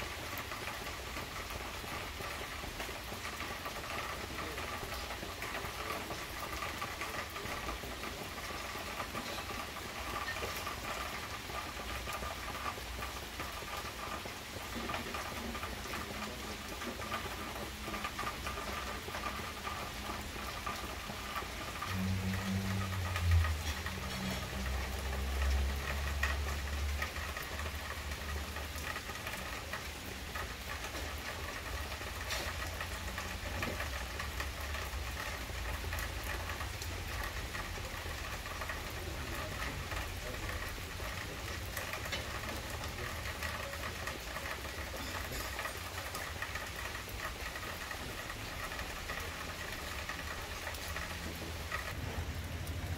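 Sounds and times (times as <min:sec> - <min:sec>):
rain pattering on glass and wood: 0:00.0 - 0:52.9.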